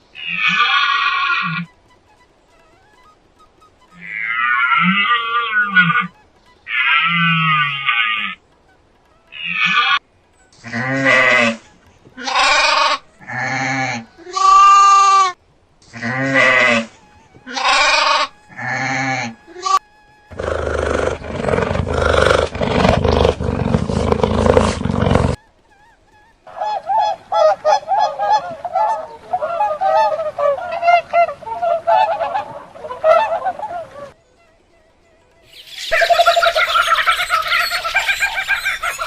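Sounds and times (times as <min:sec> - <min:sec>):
loud unpitched animal noise: 0:00.0 - 0:30.2, 0:31.0 - 0:39.0
animal calling: 0:00.0 - 0:39.0
animal chattering calls: 0:00.2 - 0:15.4, 0:16.0 - 0:39.0.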